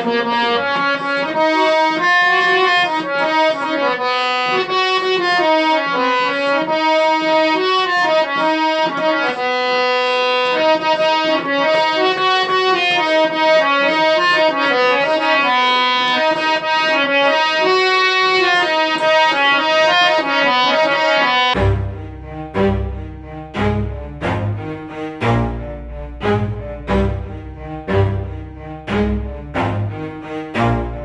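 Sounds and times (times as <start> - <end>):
harmonium melody over drone: 0.0 - 31.0.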